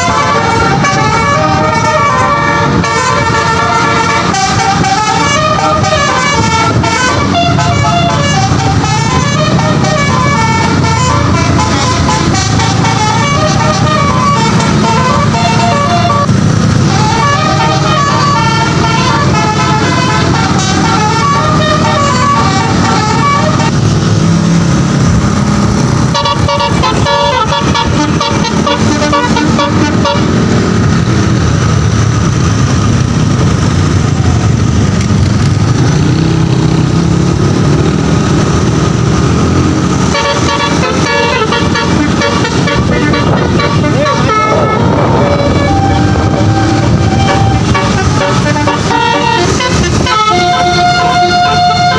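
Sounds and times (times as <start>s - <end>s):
musical bus horn melody: 0.0s - 24.4s, 25.7s - 31.2s, 39.6s - 51.9s
low engine rumble: 0.0s - 51.9s.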